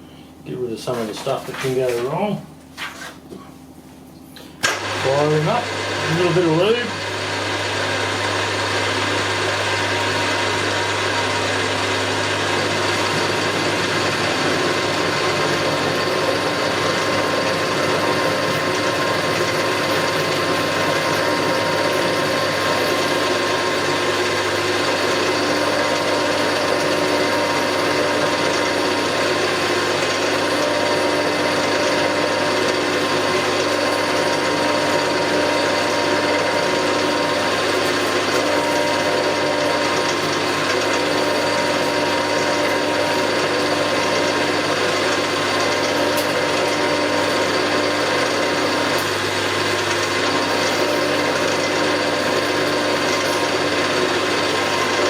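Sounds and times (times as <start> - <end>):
milling machine cutting: 4.6 - 55.0.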